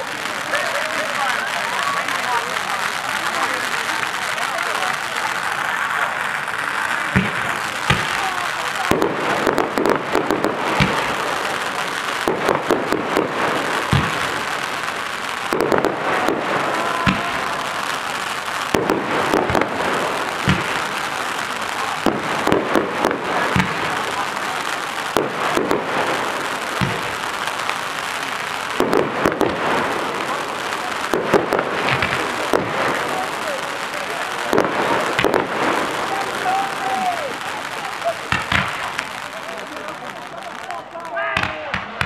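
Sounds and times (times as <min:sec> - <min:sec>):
fireworks crackling hiss: 0:00.0 - 0:42.0
fireworks shells bursting with bangs: 0:00.0 - 0:42.0.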